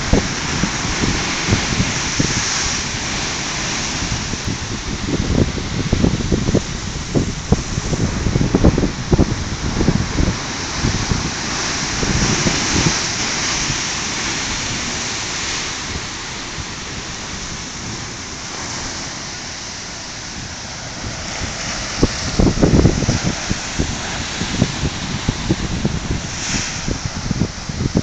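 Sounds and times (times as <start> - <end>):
surf rushing through blowhole: 0.0 - 28.0
wind buffeting microphone: 0.0 - 28.0.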